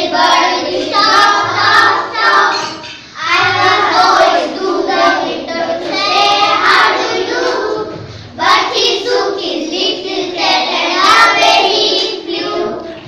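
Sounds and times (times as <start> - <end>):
children singing in unison: 0.0 - 13.0.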